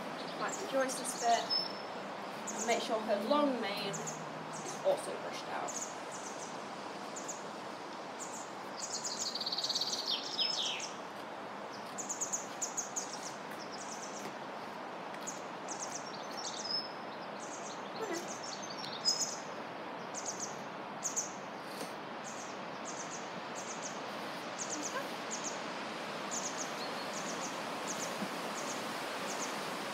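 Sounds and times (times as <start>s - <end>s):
small birds chirping: 0.0s - 11.0s, 11.6s - 29.9s
outdoor background noise: 0.0s - 29.9s.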